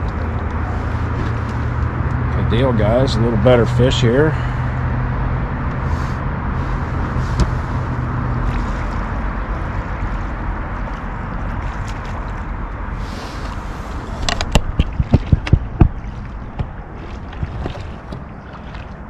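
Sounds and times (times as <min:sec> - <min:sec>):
low steady hum: 0:00.0 - 0:19.0
river current against boat hull: 0:00.0 - 0:19.0.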